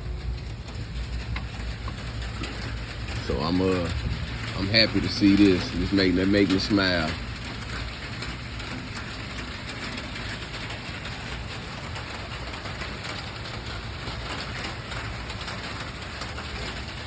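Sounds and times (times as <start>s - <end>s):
rain pattering on surfaces: 0.0s - 17.0s.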